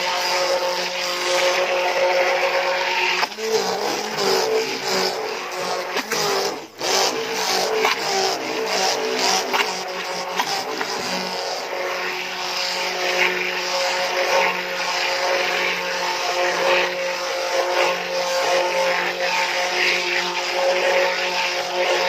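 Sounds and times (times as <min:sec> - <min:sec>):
electric mixer motor whining: 0:00.0 - 0:22.0.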